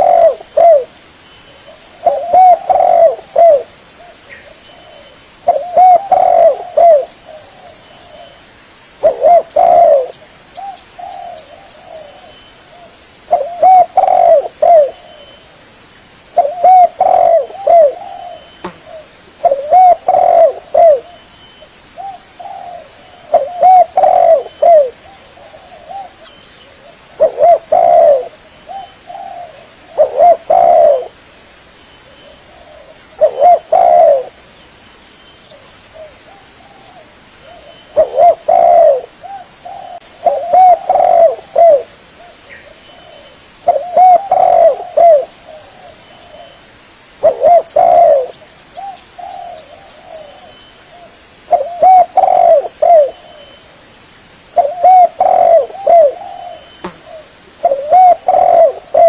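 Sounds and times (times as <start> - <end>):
dove cooing: 0.0 - 1.0, 1.6 - 8.4, 9.0 - 15.4, 16.4 - 21.3, 22.0 - 31.2, 32.2 - 34.4, 35.5 - 46.6, 47.2 - 53.7, 54.6 - 59.0.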